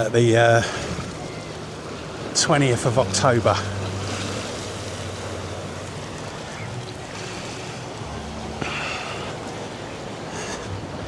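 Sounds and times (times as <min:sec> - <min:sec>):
distant crowd voices: 0:00.0 - 0:11.0
waves washing: 0:00.0 - 0:11.0.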